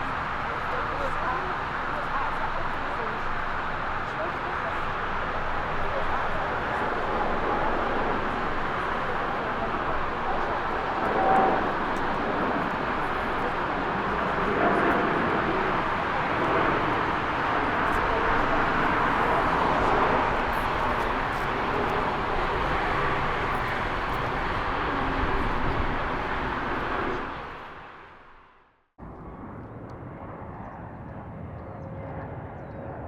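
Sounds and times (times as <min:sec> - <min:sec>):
jet airliner engines roaring: 0:00.0 - 0:33.0.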